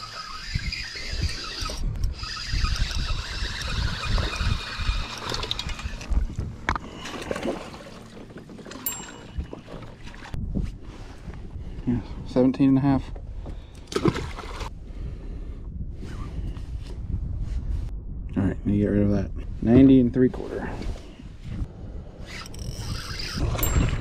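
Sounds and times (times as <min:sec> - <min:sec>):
wind on microphone: 0:00.0 - 0:07.6, 0:09.2 - 0:12.4, 0:13.1 - 0:24.0.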